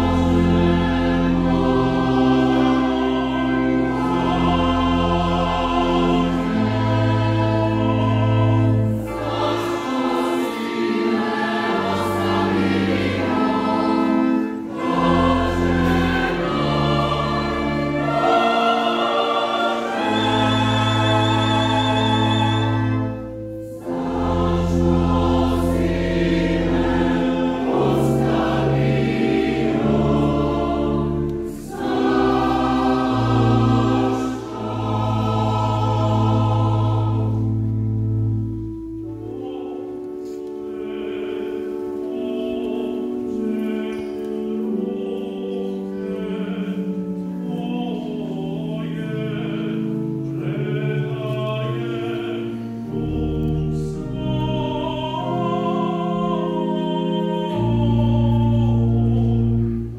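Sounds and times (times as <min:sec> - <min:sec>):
choir singing: 0:00.0 - 0:59.9
organ chords: 0:00.0 - 0:59.9.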